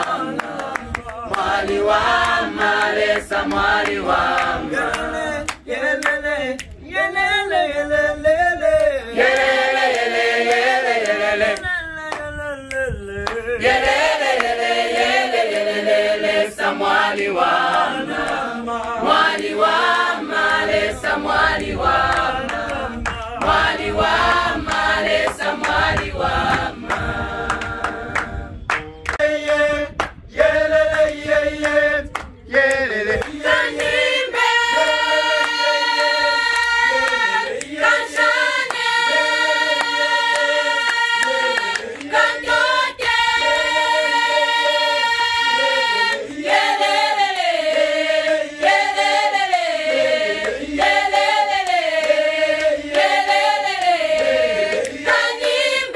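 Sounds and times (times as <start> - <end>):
women's choir singing a cappella: 0.0 - 6.6, 9.0 - 11.7, 13.4 - 55.9.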